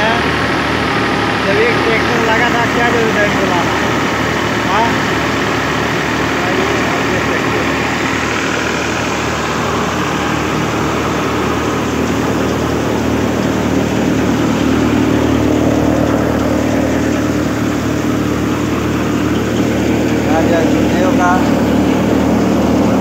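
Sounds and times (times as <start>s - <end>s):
thresher mechanical drone: 0.0s - 23.0s.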